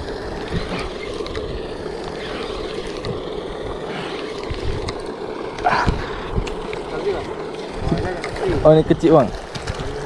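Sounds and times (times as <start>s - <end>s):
pond aerators churning water: 0.0s - 10.0s.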